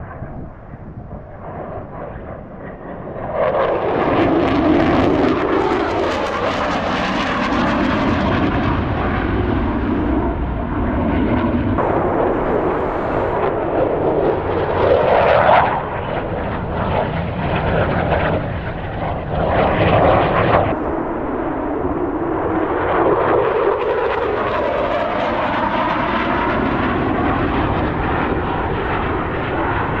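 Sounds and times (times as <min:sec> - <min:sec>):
fighter jet engine roar: 0:00.0 - 0:30.0.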